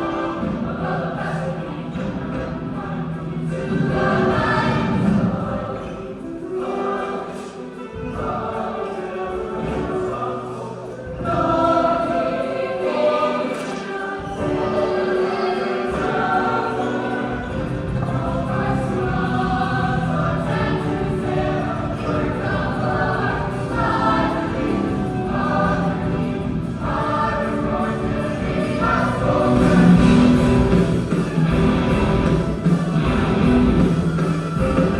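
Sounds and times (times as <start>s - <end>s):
choir singing: 0.0s - 34.9s
instrumental accompaniment: 0.0s - 34.9s.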